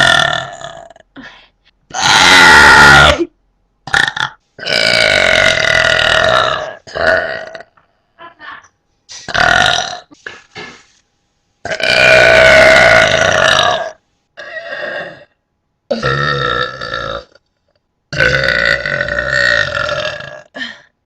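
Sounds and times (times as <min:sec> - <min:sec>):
person burping: 0:00.0 - 0:01.2, 0:01.9 - 0:07.8, 0:09.1 - 0:10.8, 0:11.6 - 0:17.5, 0:18.1 - 0:21.0.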